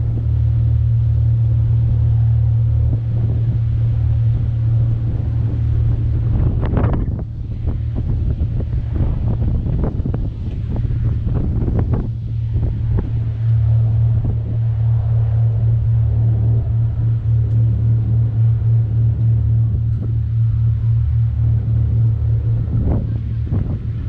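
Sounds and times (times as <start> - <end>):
low engine drone: 0.0 - 24.0
wind buffeting microphone: 0.0 - 24.0.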